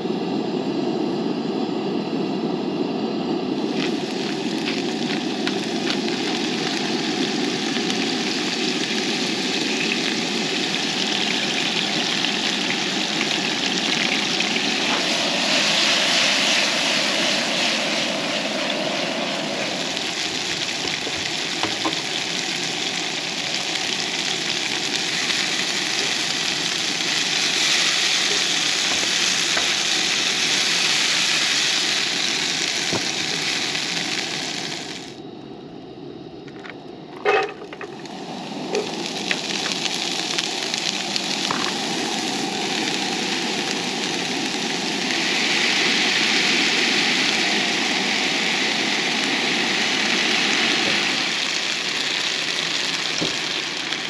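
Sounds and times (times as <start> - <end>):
camp stove burner roar: 0.0 - 54.0
shrimp sizzling in hot oil: 3.6 - 35.2, 37.2 - 54.0.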